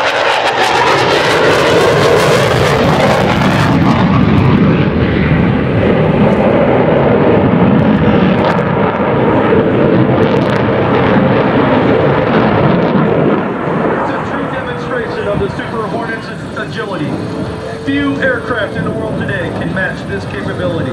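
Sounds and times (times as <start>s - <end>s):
jet engine roar: 0.0s - 20.9s.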